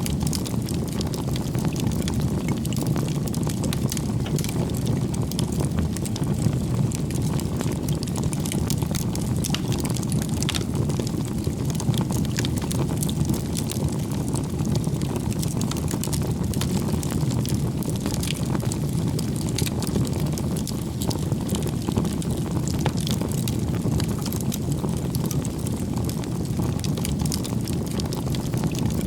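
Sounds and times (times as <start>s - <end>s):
campfire flames rushing: 0.0s - 29.0s
firewood crackling and popping: 0.0s - 29.0s.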